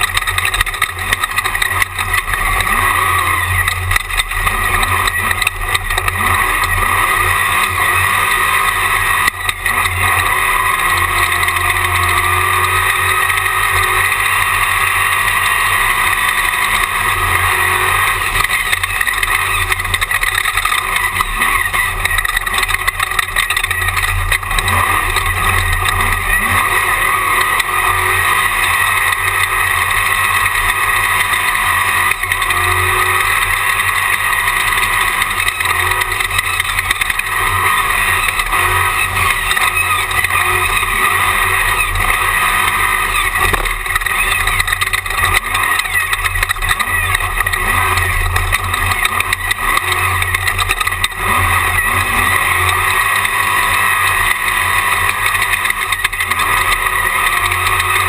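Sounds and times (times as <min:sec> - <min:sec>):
race buggy engine revving: 0:00.0 - 0:58.0.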